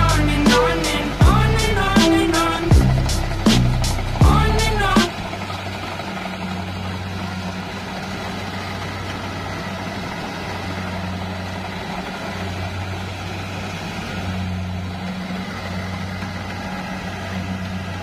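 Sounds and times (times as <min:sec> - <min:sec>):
combine harvester diesel engine: 0:00.0 - 0:18.0.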